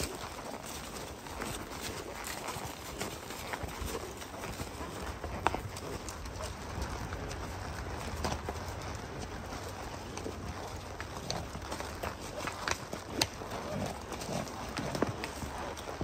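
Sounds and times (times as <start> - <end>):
hooves on stone: 0.0 - 16.0.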